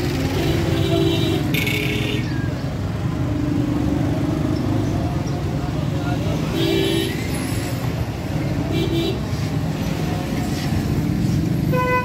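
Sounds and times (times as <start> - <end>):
auto-rickshaw and motorcycle engines: 0.0 - 12.0
low traffic rumble: 0.0 - 12.0.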